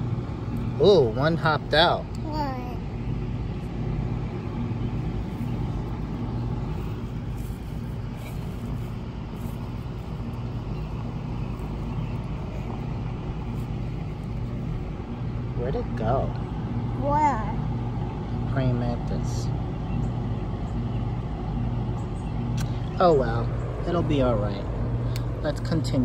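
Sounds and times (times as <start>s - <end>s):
low mechanical machine hum: 0.0s - 26.0s.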